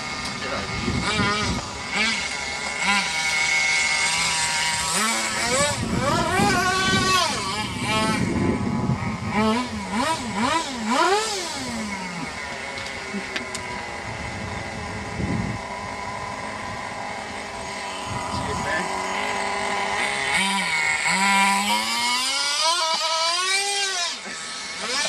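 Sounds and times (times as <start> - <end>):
radio-controlled car motor revving: 0.0 - 25.0.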